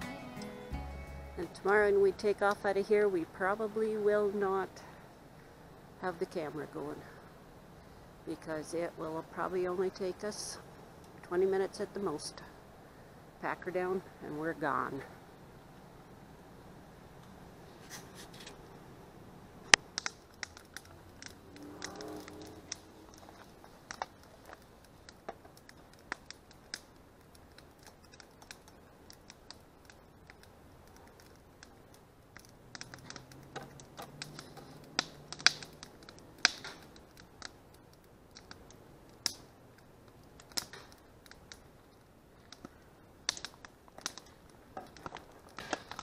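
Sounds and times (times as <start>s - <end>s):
campfire crackling and snapping: 0.0s - 46.0s.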